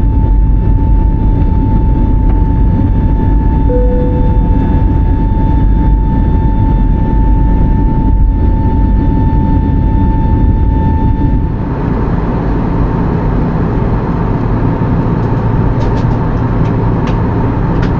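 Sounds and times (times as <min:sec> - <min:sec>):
jet engine rumble: 0:00.0 - 0:17.9
jet engine whine: 0:00.0 - 0:17.9.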